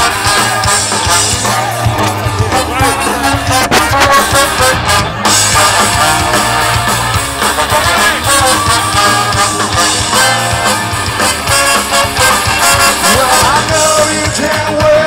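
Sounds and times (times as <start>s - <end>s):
trumpets and trombone: 0.0s - 14.4s
live ska-punk band playing: 0.0s - 15.0s.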